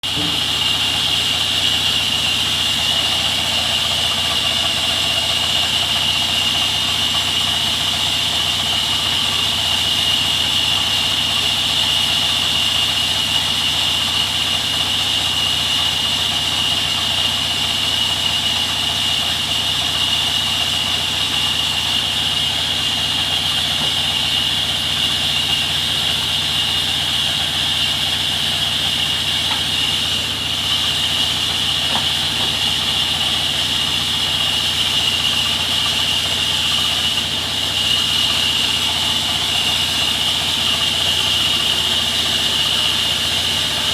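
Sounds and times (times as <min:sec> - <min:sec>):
sawmill machinery whining: 0:00.0 - 0:43.9.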